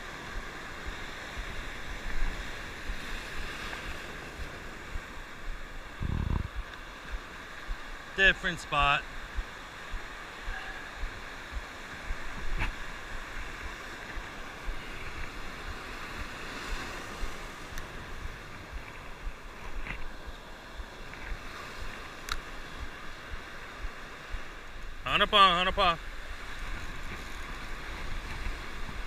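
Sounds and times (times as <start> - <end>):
wind buffeting microphone: 0.0 - 8.0, 9.1 - 25.0, 26.1 - 29.0.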